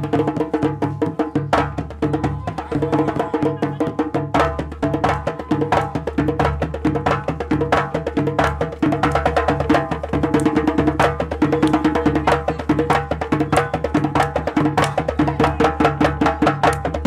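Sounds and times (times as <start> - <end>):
hand drums playing fast rhythm: 0.0 - 17.0.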